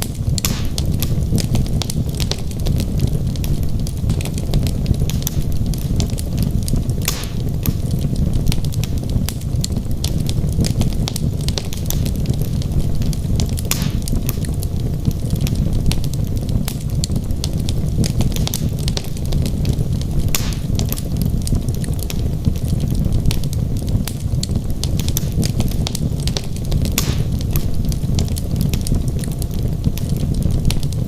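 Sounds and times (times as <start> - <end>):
fire flames rumbling: 0.0 - 31.0
wood crackling and popping: 0.0 - 31.0.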